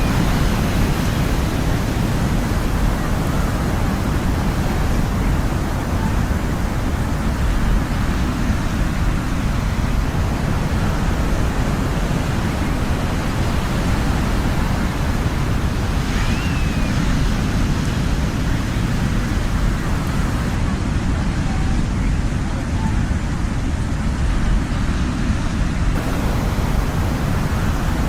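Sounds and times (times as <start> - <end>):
ocean surf washing: 0.0 - 24.0, 24.6 - 28.0.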